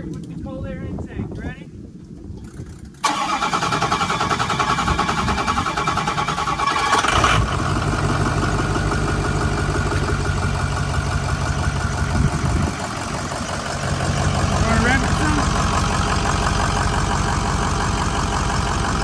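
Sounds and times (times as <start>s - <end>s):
starter cranking engine: 2.4s - 19.0s
diesel engine idling: 3.0s - 19.0s.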